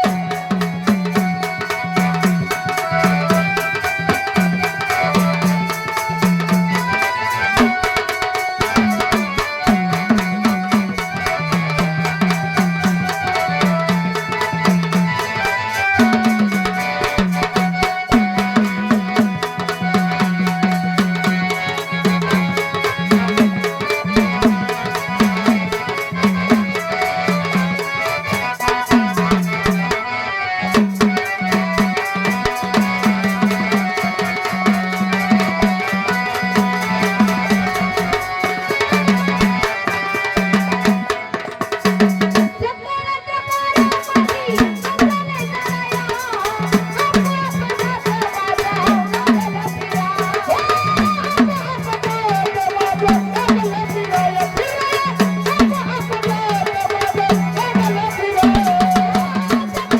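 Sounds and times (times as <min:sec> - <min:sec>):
fast hand drum playing: 0:00.0 - 0:30.0, 0:30.7 - 0:42.7, 0:43.8 - 0:59.9
jingling rattle percussion: 0:00.0 - 0:30.1, 0:30.7 - 0:42.6, 0:43.5 - 0:59.9.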